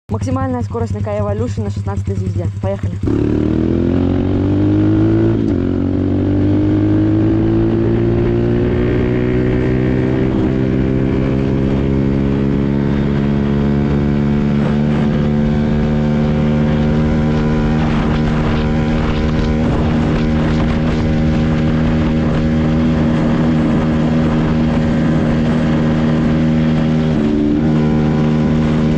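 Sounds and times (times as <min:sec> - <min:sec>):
pit bike engine at full throttle: 0:00.1 - 0:28.9.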